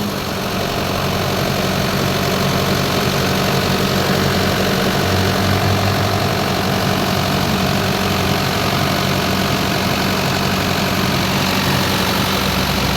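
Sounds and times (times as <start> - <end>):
diesel engine running steadily: 0.0 - 12.9.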